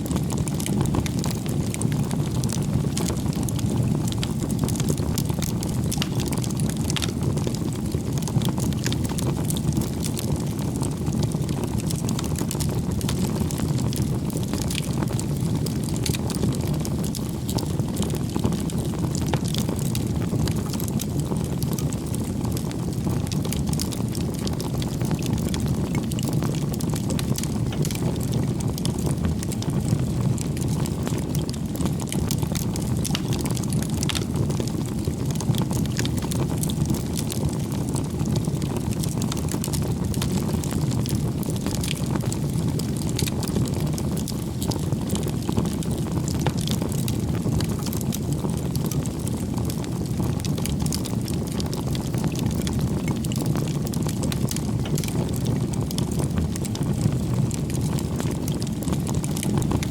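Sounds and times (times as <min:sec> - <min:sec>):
fire crackles and pops: 0:00.0 - 0:59.9
flames rushing: 0:00.1 - 0:59.8.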